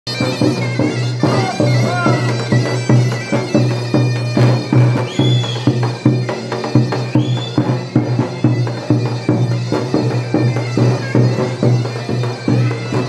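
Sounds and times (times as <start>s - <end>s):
shrill reedy pipe melody: 0.1s - 13.0s.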